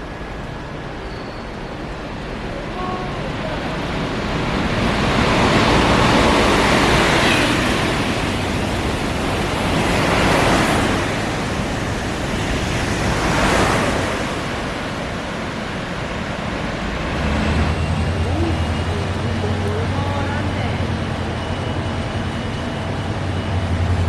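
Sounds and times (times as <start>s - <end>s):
train passing at speed: 0.0s - 24.0s.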